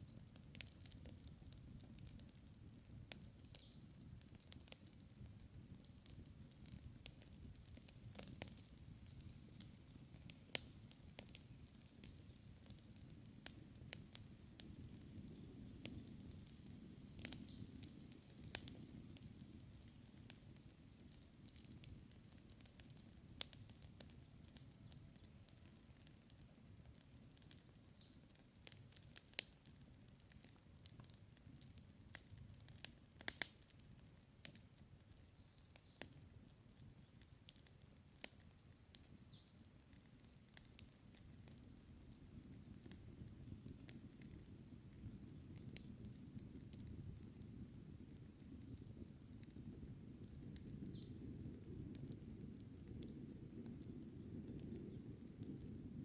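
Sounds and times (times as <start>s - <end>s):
low rumble of flame: 0.0s - 56.0s
wood crackling and popping: 0.0s - 56.0s.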